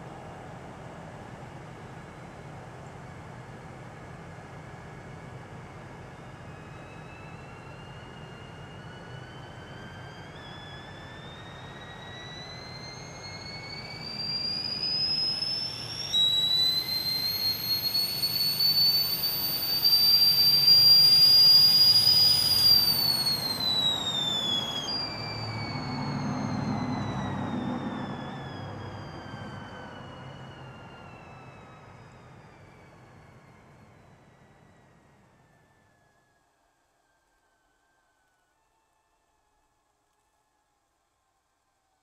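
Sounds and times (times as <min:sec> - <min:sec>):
tea kettle whistling: 0:04.9 - 0:39.6.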